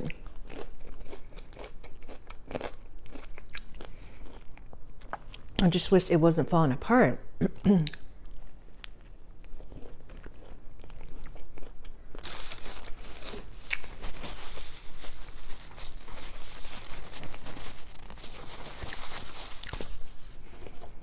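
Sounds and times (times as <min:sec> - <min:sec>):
person chewing and crunching food: 0:00.0 - 0:05.6, 0:07.6 - 0:21.0.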